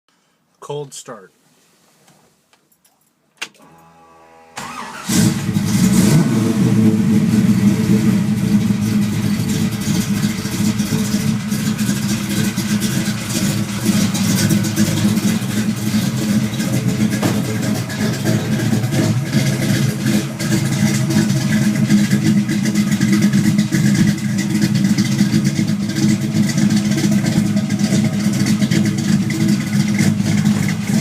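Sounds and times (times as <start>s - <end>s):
car engine revving and idling: 3.6s - 31.0s.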